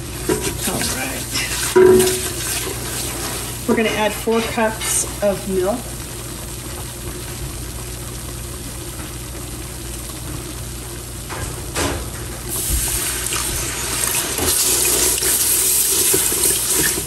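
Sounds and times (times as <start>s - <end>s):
roux sizzling in a pot: 0.0s - 11.3s, 12.4s - 17.0s.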